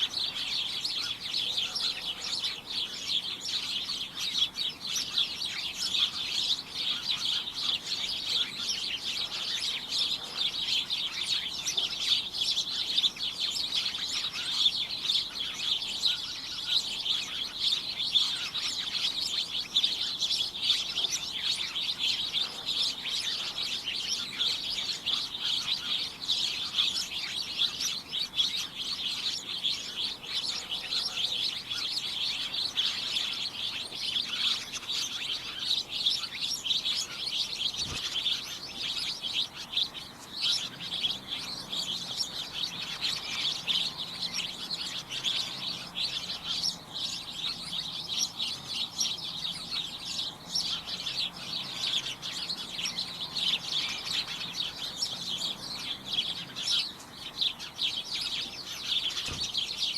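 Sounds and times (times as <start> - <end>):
flock of small birds chirping: 0.0 - 59.9.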